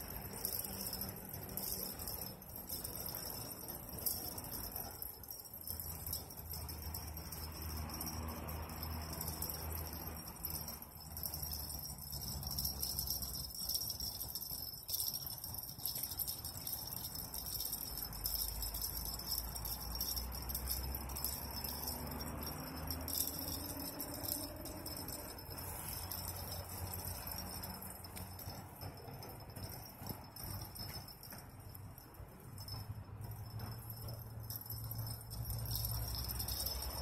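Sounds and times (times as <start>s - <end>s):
fishing reel clicking and rattling: 0.0s - 37.0s.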